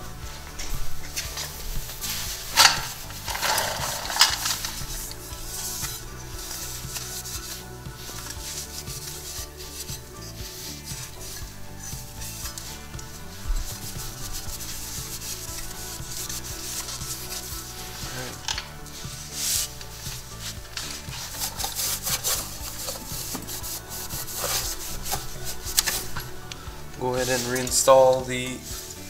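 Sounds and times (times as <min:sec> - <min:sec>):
rag scrubbing metal plate: 0:00.0 - 0:29.0.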